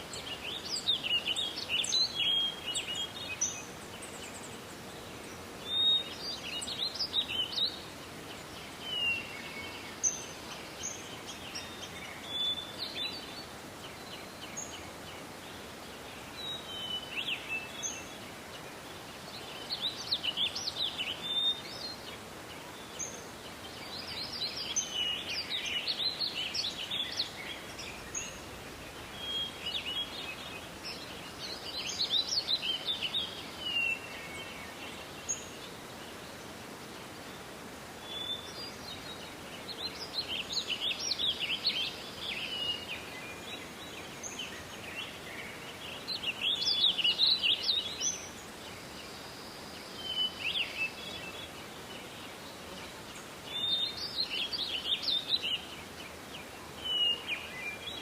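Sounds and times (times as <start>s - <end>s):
soft background hiss: 0.0s - 58.0s
songbirds twittering: 0.0s - 58.0s.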